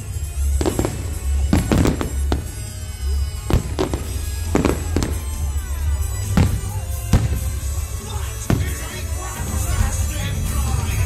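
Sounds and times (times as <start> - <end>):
firework shells bursting: 0.0 - 9.2
loud music with throbbing bass: 0.0 - 11.0.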